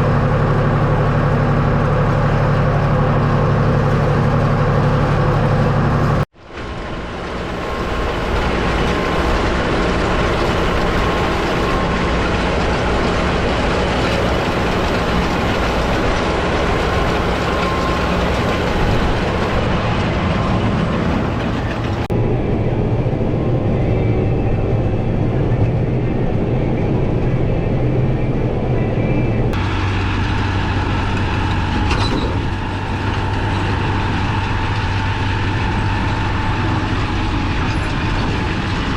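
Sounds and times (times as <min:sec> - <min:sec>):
hay machinery running: 0:00.0 - 0:22.1, 0:29.1 - 0:38.9
tractor engine running: 0:00.0 - 0:38.9.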